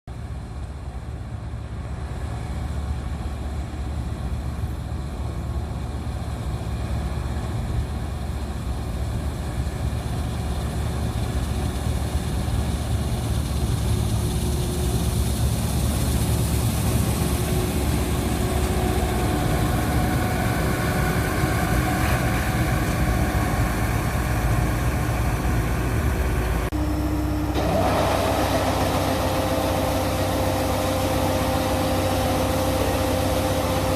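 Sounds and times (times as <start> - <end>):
harvesting machine engine: 2.0 - 33.9.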